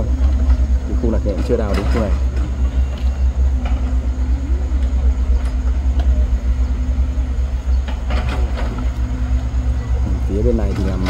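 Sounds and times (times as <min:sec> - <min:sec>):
diesel engines of digging machines: 0:00.0 - 0:11.0.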